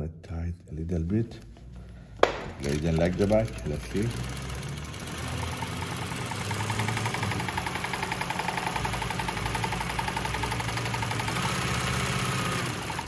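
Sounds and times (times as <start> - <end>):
sewing machine stitching: 2.4 - 13.0.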